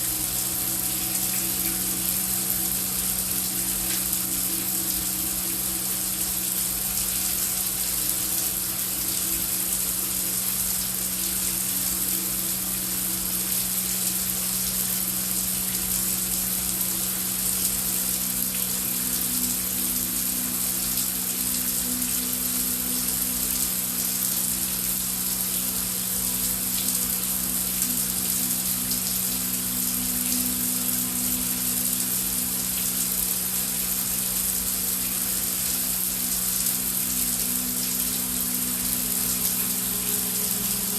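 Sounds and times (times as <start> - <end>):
heavy rain hissing: 0.0 - 40.9
low ambient drone: 0.0 - 40.9.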